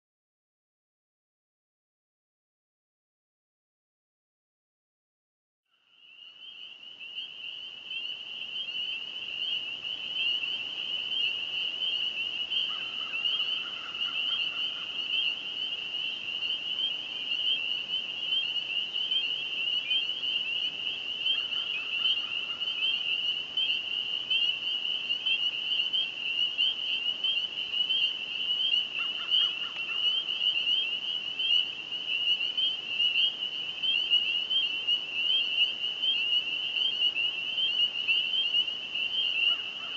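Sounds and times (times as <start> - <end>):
frogs peeping chorus: 5.8 - 39.9.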